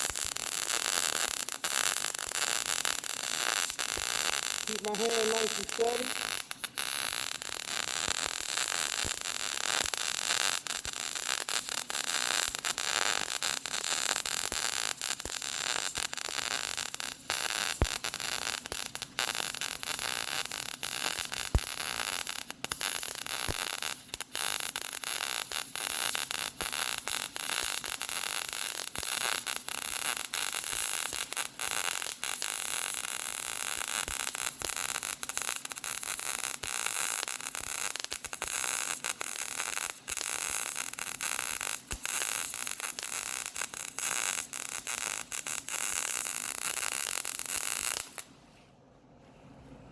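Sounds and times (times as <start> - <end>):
welding arc crackling hiss: 0.0 - 48.3.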